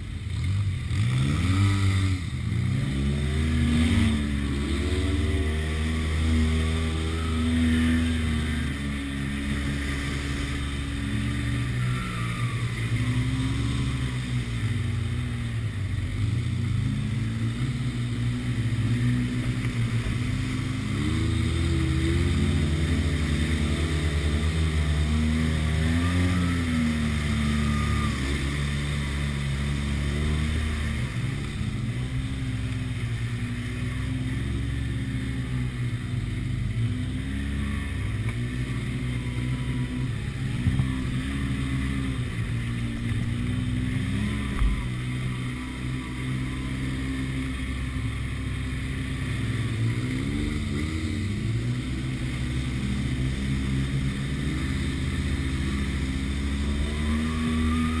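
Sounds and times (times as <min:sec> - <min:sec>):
utility vehicle engine revving: 0:00.0 - 0:58.0.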